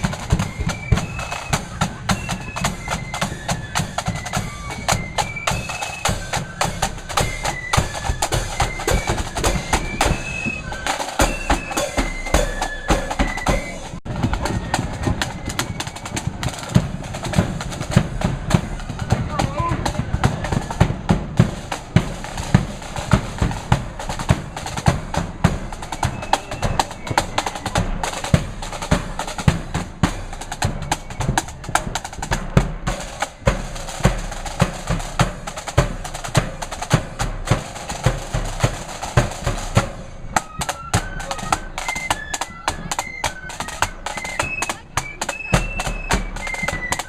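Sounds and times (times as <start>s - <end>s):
flutes playing a tune: 0.0s - 47.0s
snare drums rolling: 0.0s - 47.0s.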